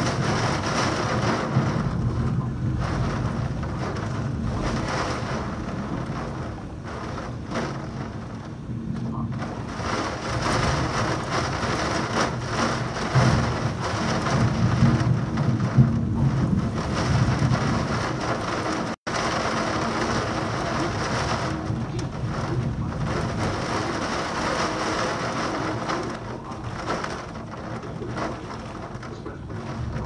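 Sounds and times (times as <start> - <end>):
heavy rain pouring: 0.0 - 30.0
low rumble of thunder: 0.0 - 30.0.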